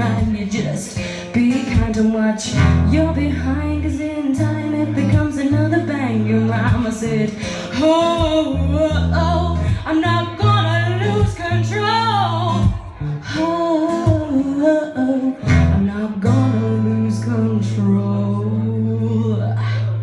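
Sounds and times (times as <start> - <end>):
guitar accompaniment: 0.0 - 20.0
person singing: 0.0 - 20.0.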